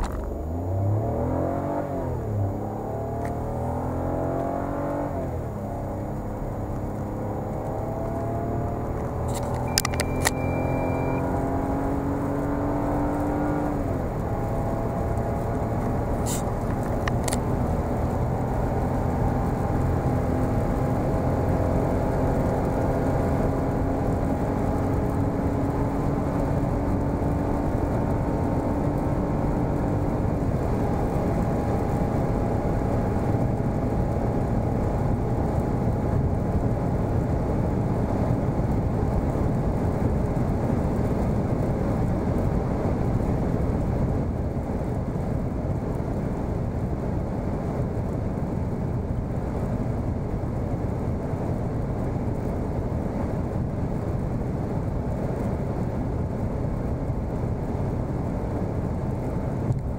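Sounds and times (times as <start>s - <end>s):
car engine drone: 0.0s - 59.9s
wind noise in car cabin: 0.0s - 59.9s.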